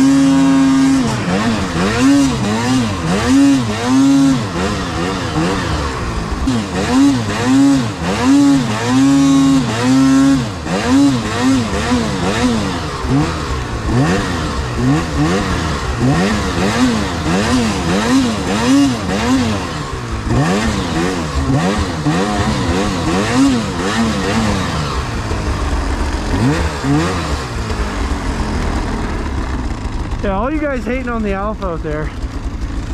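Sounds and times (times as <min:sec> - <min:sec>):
snowmobile engine revving: 0:00.0 - 0:32.9.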